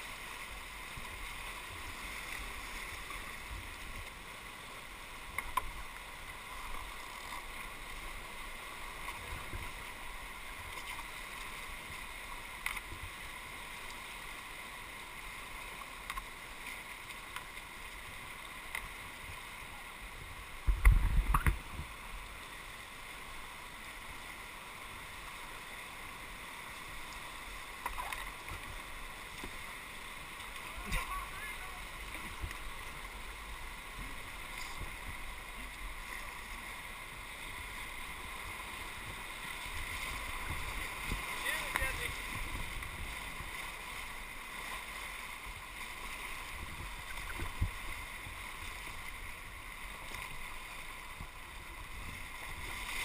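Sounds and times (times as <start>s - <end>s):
rapids rushing: 0.0s - 53.0s.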